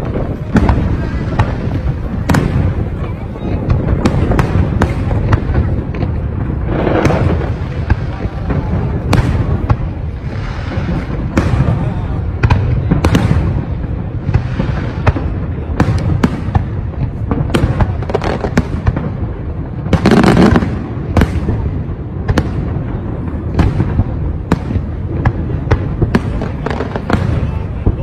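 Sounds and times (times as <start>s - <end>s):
continuous fireworks rumble: 0.0s - 28.0s
fireworks bangs: 0.0s - 28.0s.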